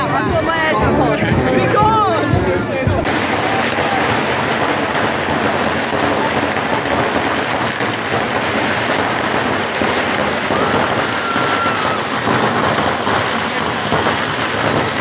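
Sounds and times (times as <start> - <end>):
firecrackers crackling: 2.9 - 15.0.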